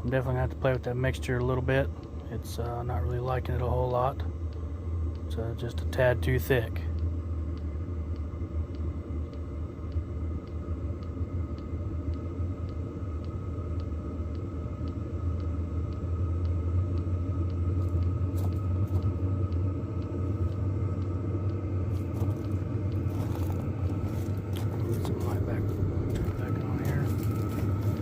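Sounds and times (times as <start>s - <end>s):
faint regular ticking: 0.0s - 28.0s
heater burner rumbling: 0.0s - 28.0s.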